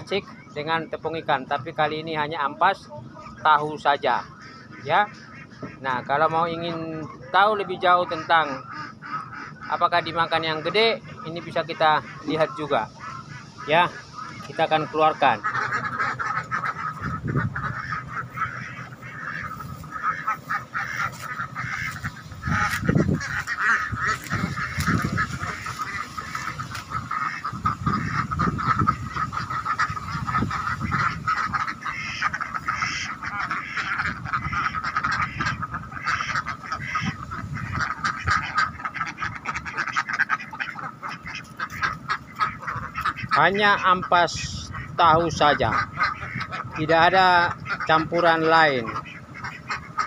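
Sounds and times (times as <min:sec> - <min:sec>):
ducks quacking: 0:00.0 - 0:50.0.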